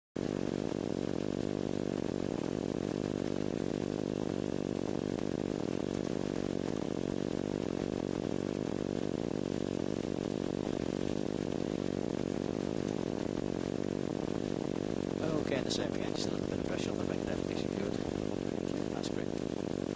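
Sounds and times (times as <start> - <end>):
aircraft engine and propeller drone: 0.2 - 19.9.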